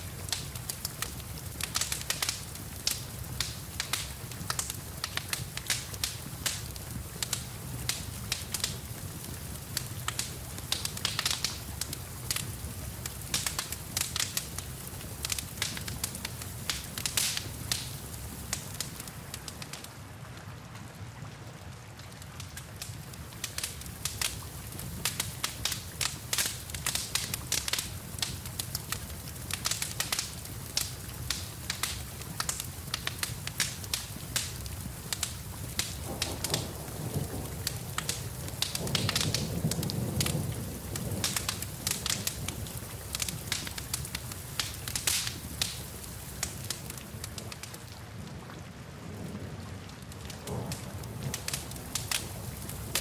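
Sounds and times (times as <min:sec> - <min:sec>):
rain pattering: 0:00.0 - 0:53.0
wood fire crackling: 0:00.0 - 0:53.0.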